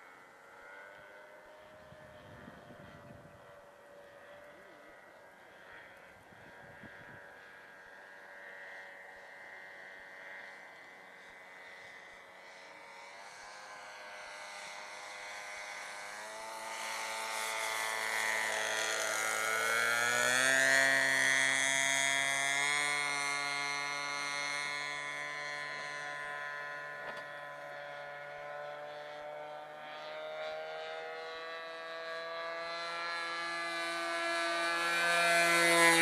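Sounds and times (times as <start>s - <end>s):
model airplane engine droning: 0.0s - 36.0s.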